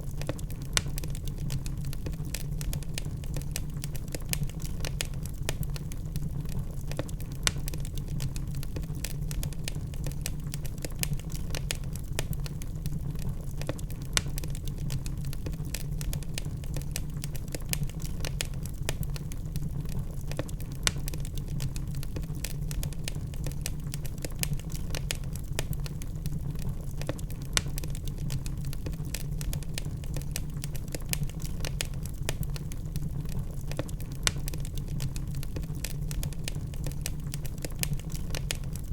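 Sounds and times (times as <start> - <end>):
log fire snapping and popping: 0.0 - 38.9
low rumble of flames: 0.0 - 38.9.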